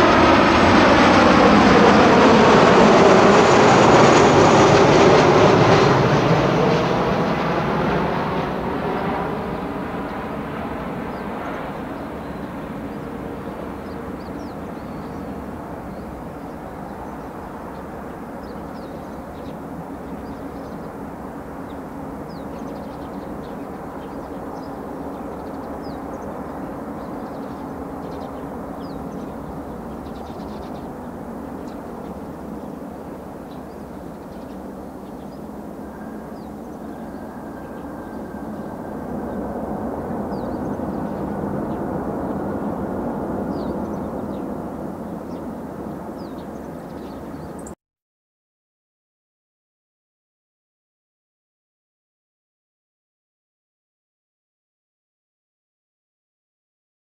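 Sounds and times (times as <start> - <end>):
jet airliner passing overhead: 0.0 - 47.8.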